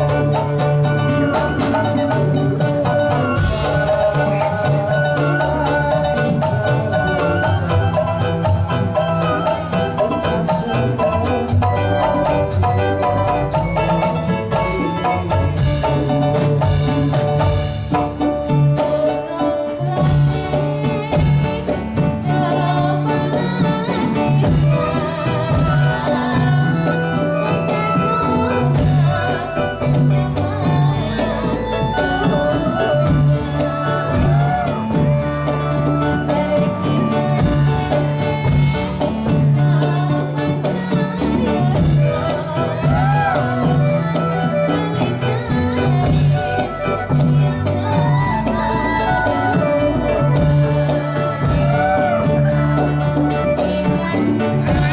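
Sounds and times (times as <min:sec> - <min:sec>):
person singing: 0:00.0 - 0:54.9
pitched instruments: 0:00.0 - 0:54.9
repeating percussion rhythm: 0:00.0 - 0:54.9.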